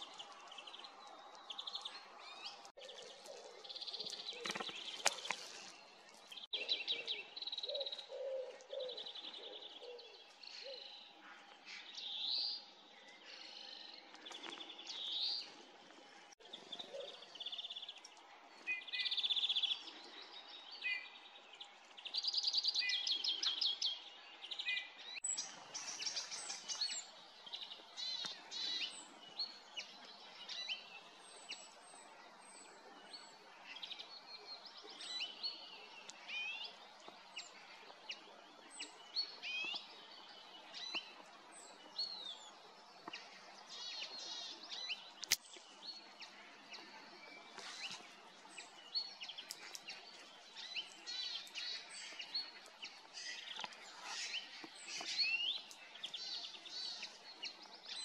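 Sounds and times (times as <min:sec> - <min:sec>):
songbirds calling and singing: 0:00.0 - 0:58.0.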